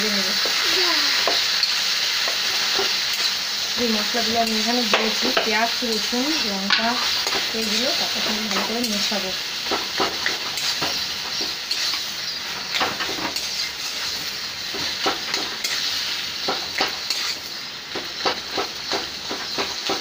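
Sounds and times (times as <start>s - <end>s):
onion and garlic sizzling in oil: 0.0s - 20.0s
spatula scraping pan: 2.3s - 20.0s.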